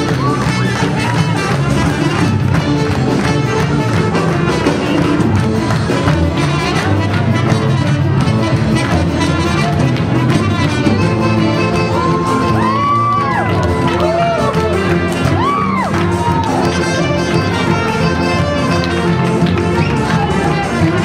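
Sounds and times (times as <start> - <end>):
live dance band playing: 0.0 - 21.0.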